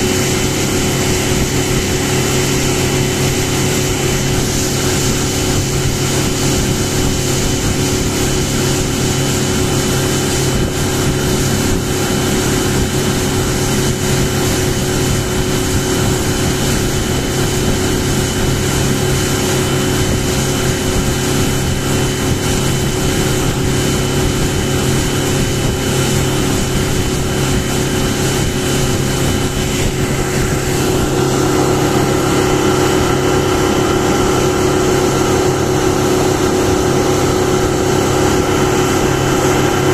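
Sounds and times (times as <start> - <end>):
outboard motor running: 0.0 - 39.9
rushing water and wind: 0.0 - 39.9.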